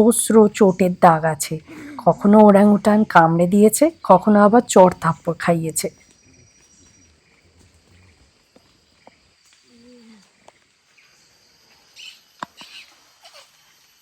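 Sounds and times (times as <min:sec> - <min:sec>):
insect buzz: 0:00.0 - 0:14.0.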